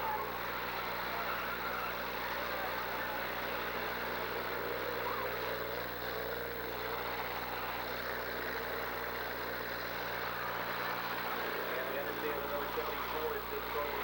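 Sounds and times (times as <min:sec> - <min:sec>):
car engines running together: 0:00.0 - 0:14.0.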